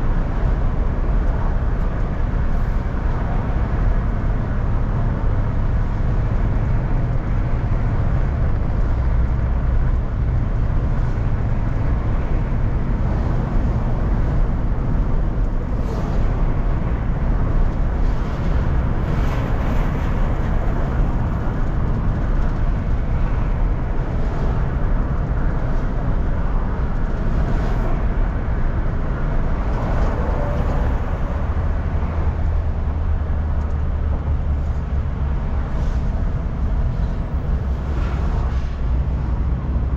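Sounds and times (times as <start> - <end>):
car engine hum: 0.0 - 39.9
tyres rushing on road: 0.0 - 39.9.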